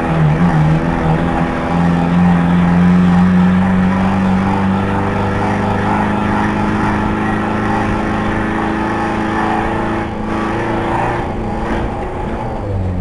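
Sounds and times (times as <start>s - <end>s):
van engine droning: 0.0s - 13.0s.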